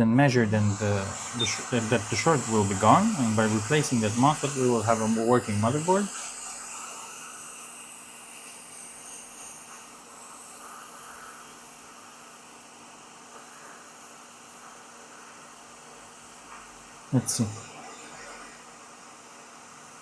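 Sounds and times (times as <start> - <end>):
faint electrical hum: 0.0 - 20.0
hot air blower hissing: 0.0 - 20.0.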